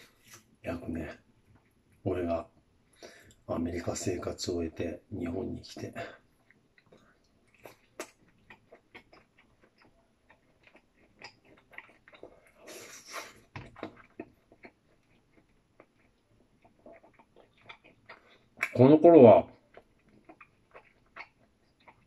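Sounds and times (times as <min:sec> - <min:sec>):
person chewing food: 0:00.0 - 0:00.6, 0:01.2 - 0:03.5, 0:05.7 - 0:18.8, 0:19.5 - 0:22.0.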